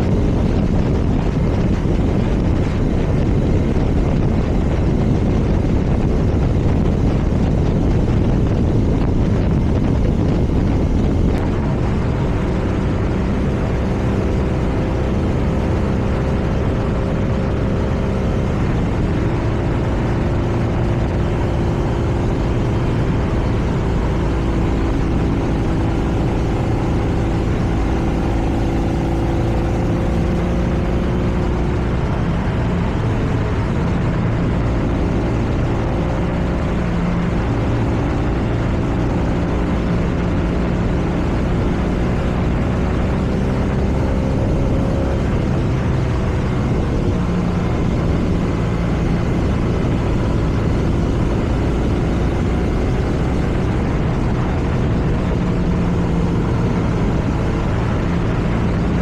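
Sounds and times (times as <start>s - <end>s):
motorcycle engine cruising: 0.0s - 59.0s
road noise: 0.0s - 59.0s
wind noise: 0.0s - 59.0s.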